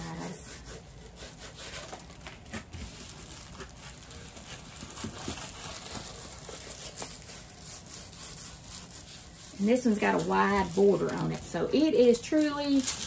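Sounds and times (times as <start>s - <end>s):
packaging rustling and crinkling: 1.1s - 13.0s.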